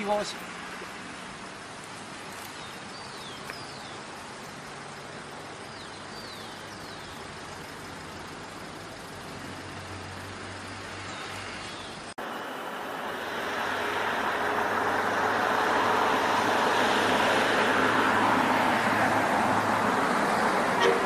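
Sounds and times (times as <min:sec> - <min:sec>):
distant traffic hiss: 0:00.0 - 0:21.0
low engine hum: 0:00.0 - 0:21.0.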